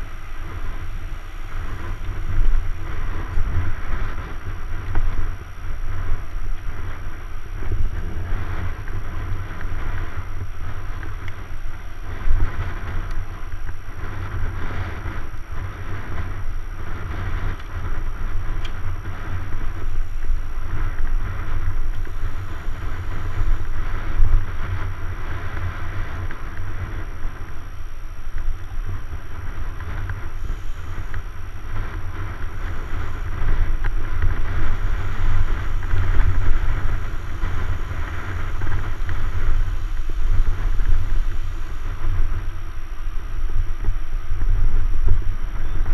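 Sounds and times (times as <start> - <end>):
tyres rolling on asphalt: 0.0 - 45.5
wind rumble on microphone: 0.0 - 45.9.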